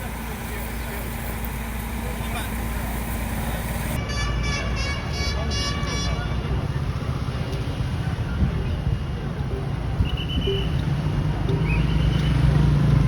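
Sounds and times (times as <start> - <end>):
vehicle rumble: 0.0 - 5.5, 6.2 - 13.0.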